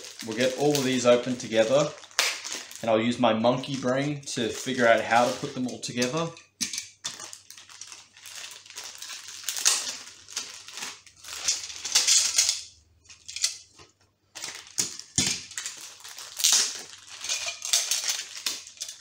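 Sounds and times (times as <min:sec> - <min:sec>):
plastic bags crinkling: 0:00.0 - 0:06.3, 0:06.9 - 0:19.0.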